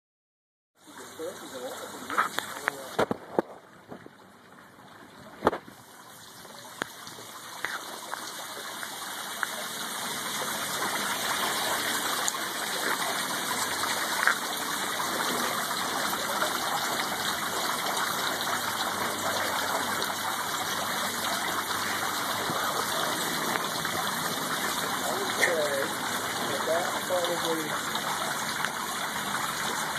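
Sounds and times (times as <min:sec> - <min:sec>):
water jetting from hose onto concrete: 0:05.8 - 0:29.9.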